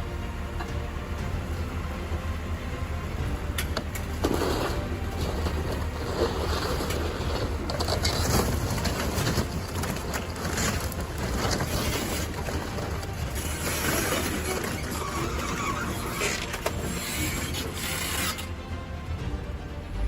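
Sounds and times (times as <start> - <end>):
background music: 0.0 - 20.0
noisy machinery: 0.0 - 20.0.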